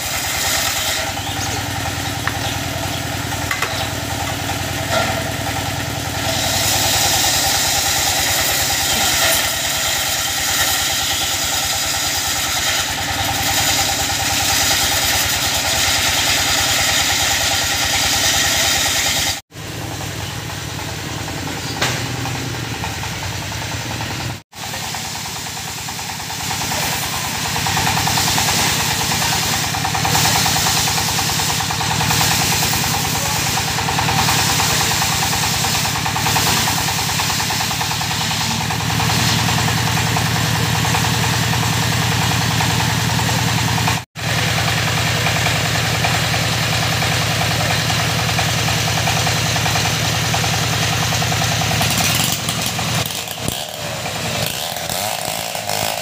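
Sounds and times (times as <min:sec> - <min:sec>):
circular saw cutting timber: 0:00.0 - 0:56.0
diesel engine chugging: 0:00.0 - 0:56.0.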